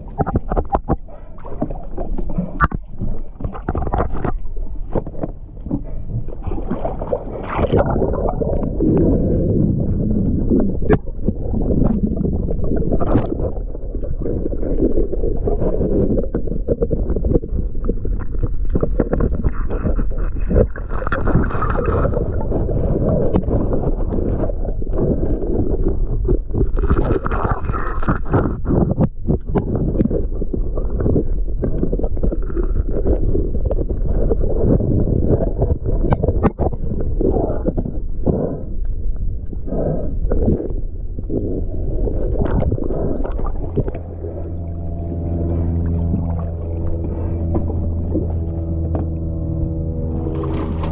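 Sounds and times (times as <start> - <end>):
underwater rumble: 0.0 - 50.9.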